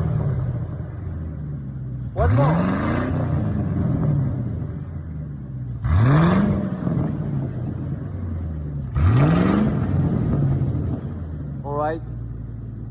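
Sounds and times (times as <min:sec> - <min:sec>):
car engine idling and revving: 0:00.0 - 0:12.9.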